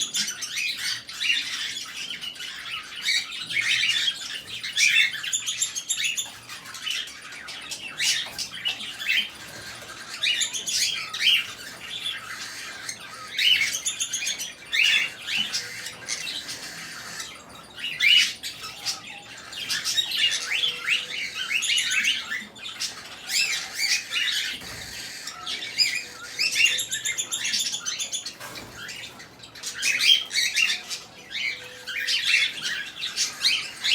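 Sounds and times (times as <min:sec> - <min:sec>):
parrots chattering: 0:00.0 - 0:33.9.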